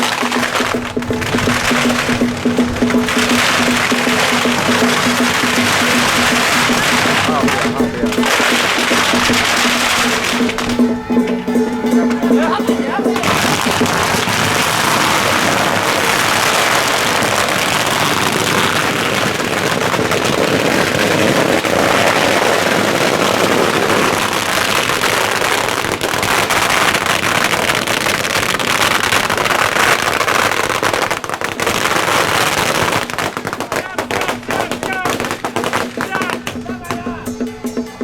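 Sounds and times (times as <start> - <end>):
firecrackers crackling: 0.0 - 38.0.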